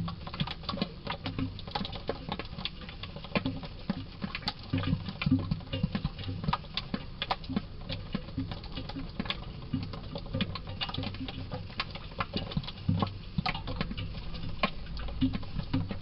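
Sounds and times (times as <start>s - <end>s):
drip coffee maker brewing: 0.0s - 16.0s.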